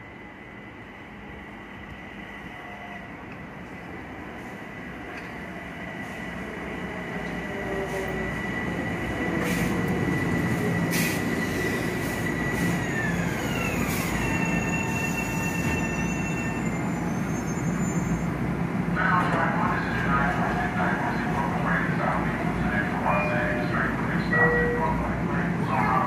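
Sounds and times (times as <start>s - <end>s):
electric commuter train passing: 0.0s - 26.0s.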